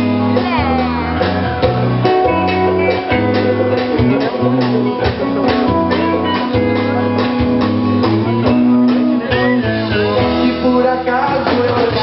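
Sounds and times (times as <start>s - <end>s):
bass notes: 0.0s - 12.0s
drum kit steady beat: 0.0s - 12.0s
guitar: 0.0s - 12.0s.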